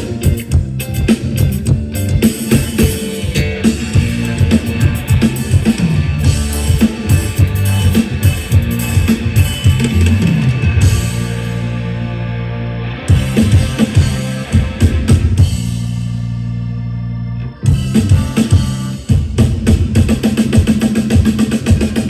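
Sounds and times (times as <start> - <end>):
drum kit beat: 0.0 - 11.8, 13.1 - 16.3, 17.7 - 22.0
held bass note: 0.0 - 19.2
band over sound system: 0.0 - 22.0.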